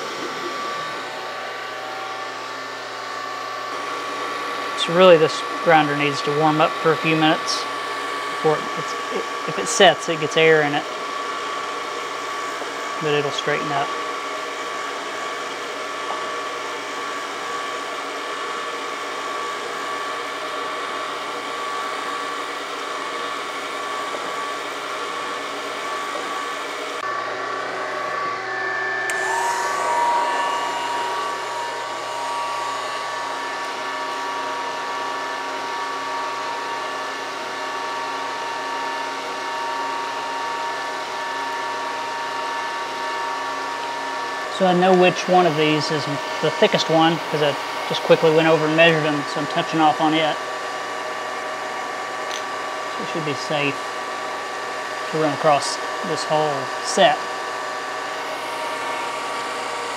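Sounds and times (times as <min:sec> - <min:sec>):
surface grinder humming: 0:00.0 - 0:59.9.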